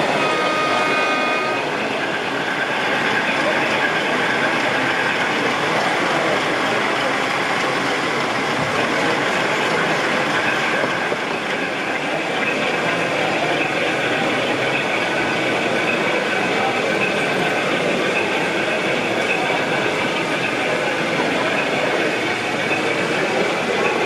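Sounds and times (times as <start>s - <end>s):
model locomotive diesel engine sound: 0.0s - 24.0s.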